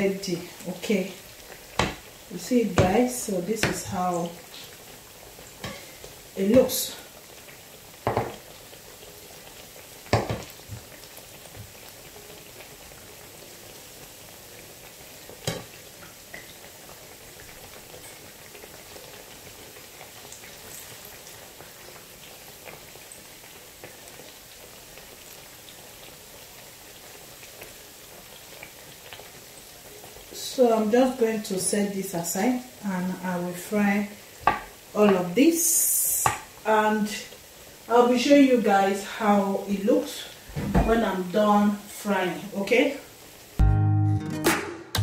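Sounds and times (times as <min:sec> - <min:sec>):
plantain sizzling in hot oil: 0:00.0 - 0:43.6.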